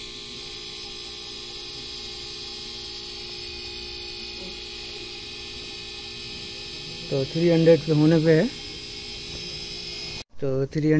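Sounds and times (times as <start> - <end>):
air compressor humming: 0.0 - 10.3.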